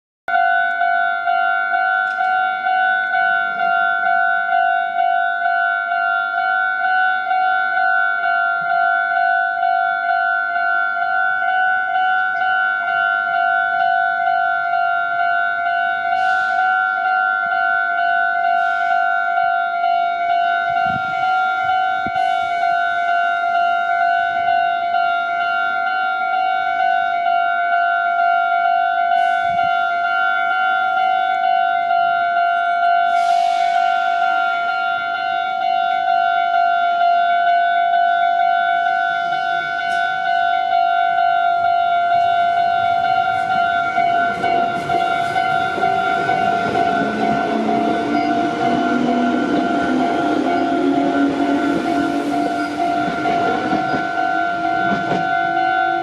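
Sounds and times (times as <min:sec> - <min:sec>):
railroad crossing bell dinging: 0:00.3 - 0:56.0.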